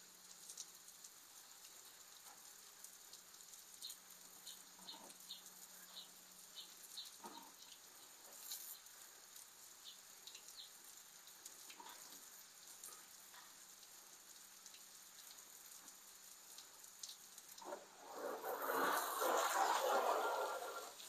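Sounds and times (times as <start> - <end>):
faint steady hiss: 0.0 - 21.0
water dripping: 0.0 - 21.0.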